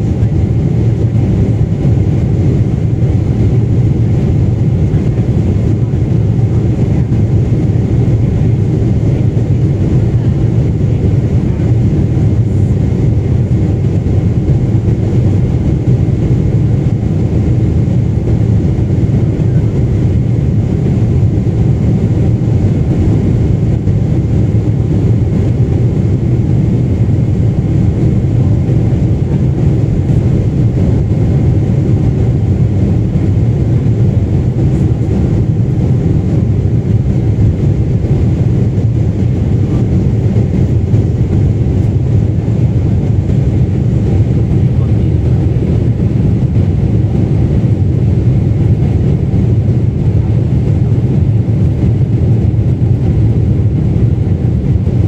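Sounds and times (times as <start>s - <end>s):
airliner cabin rush: 0.0s - 54.2s.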